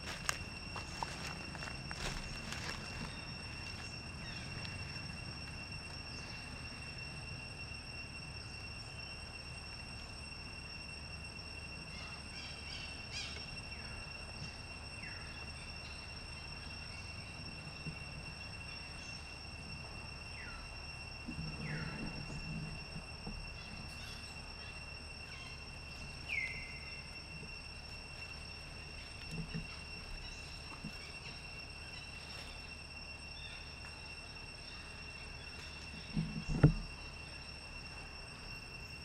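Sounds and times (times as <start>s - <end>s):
high-pitched insect drone: 0.0s - 39.0s
outdoor background noise: 0.0s - 39.0s.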